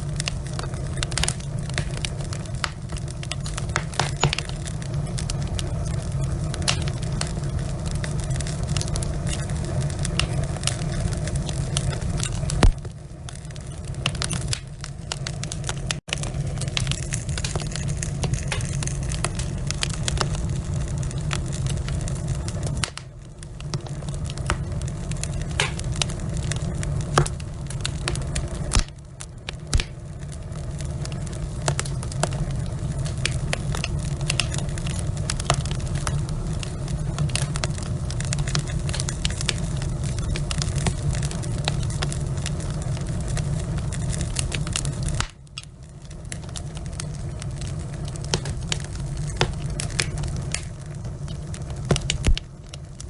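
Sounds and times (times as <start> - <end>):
logs crackling and popping: 0.0 - 53.0
low roar of flames: 0.0 - 53.0.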